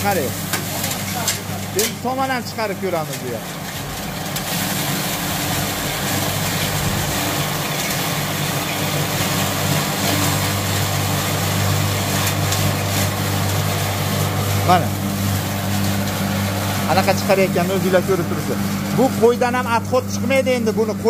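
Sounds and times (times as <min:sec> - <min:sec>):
feed grinder motor hum: 0:00.0 - 0:21.0
straw grinding rush: 0:00.0 - 0:21.0.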